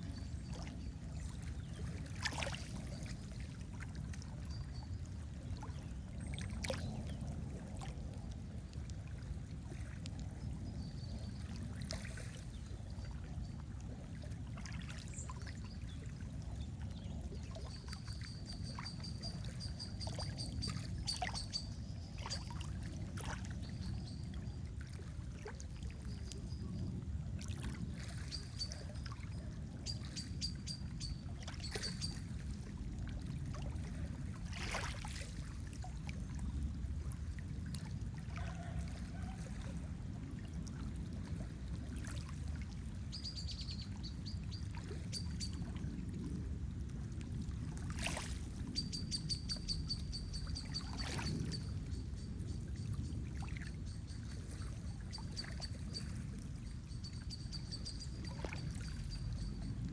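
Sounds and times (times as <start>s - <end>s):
lake water lapping: 0.0s - 59.9s
small water splashes and drips: 0.0s - 59.9s.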